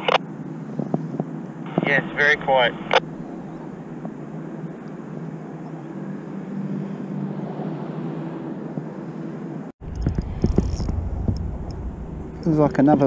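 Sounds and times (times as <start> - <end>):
distant engine drone: 0.0 - 13.0.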